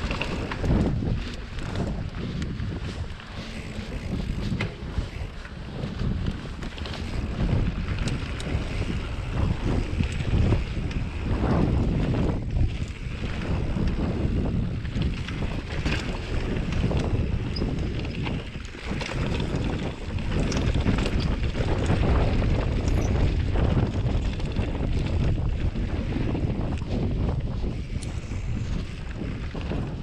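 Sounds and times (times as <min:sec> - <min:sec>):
bike rattles and clicks: 0:00.0 - 0:30.0
tyre rumble on dirt trail: 0:00.0 - 0:30.0
wind buffeting microphone: 0:00.0 - 0:30.0.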